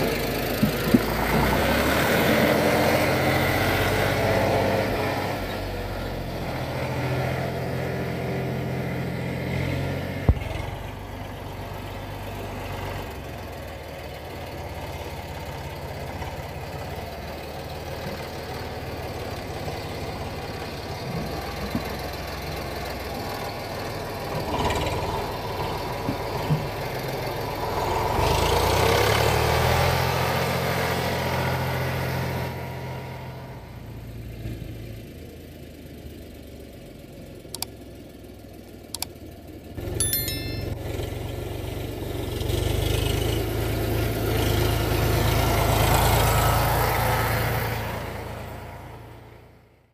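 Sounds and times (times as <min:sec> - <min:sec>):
tractor diesel engine under load: 0:00.0 - 0:40.0, 0:40.8 - 0:49.8.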